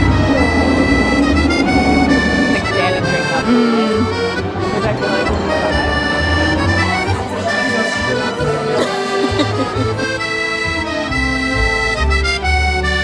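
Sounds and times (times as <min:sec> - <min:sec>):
background music: 0:00.0 - 0:13.0
steady bass line: 0:00.0 - 0:13.0.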